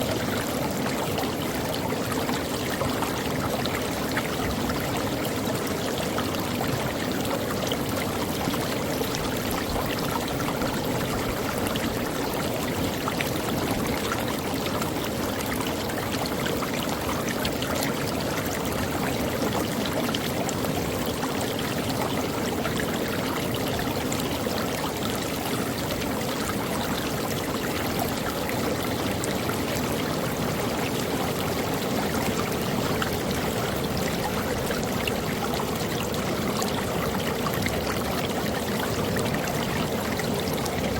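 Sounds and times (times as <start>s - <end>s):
creek water running over rocks: 0.0s - 40.9s.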